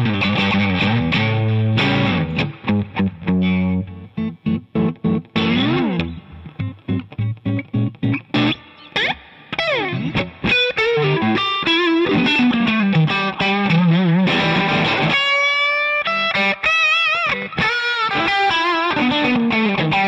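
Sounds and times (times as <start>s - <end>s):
electric guitar lead solo: 0.0s - 20.0s.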